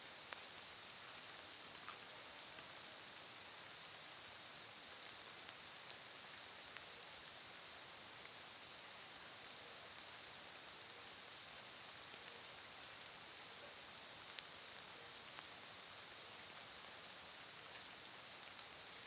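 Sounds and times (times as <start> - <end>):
light rain hiss: 0.0 - 19.0
raindrop ticks: 0.2 - 19.0.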